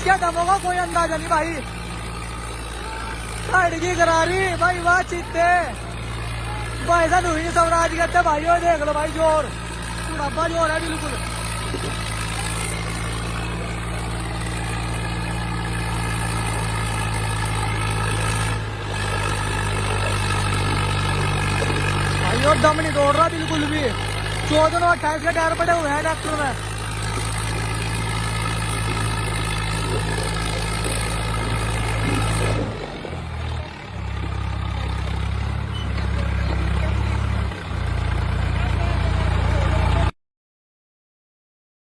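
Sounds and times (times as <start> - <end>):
tractor diesel engine under load: 0.0 - 40.2.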